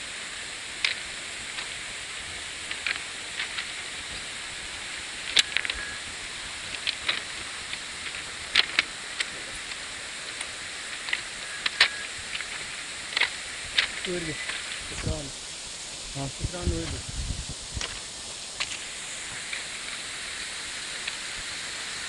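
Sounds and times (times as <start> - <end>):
rain and falling water hiss: 0.0 - 22.0.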